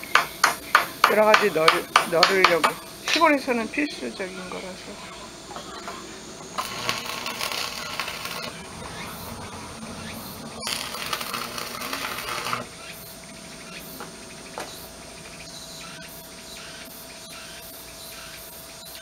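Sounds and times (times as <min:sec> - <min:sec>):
arc welding crackling sizzle: 0:00.0 - 0:19.0.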